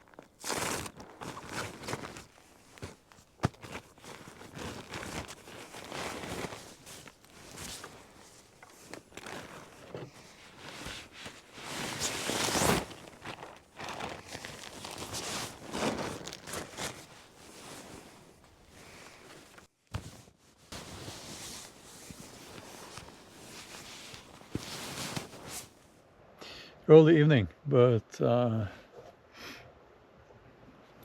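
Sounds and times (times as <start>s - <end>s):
rustling and crinkling handling: 0.0s - 25.9s.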